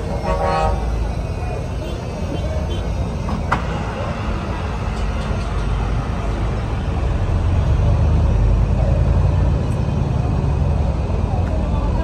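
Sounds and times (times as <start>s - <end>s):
heavy vehicle running close: 0.0s - 12.0s
road traffic rumble: 0.0s - 12.0s.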